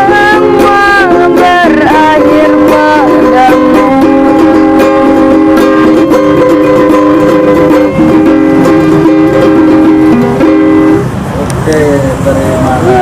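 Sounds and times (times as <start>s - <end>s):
strummed ukulele music: 0.0s - 13.0s.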